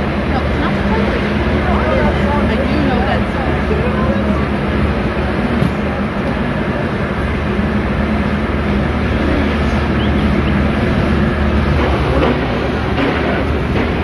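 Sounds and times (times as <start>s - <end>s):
low motor drone: 0.0s - 14.0s.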